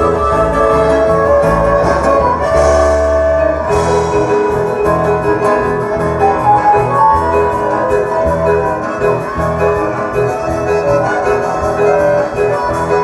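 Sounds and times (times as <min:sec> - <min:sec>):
band music with organ keyboard: 0:00.0 - 0:13.0.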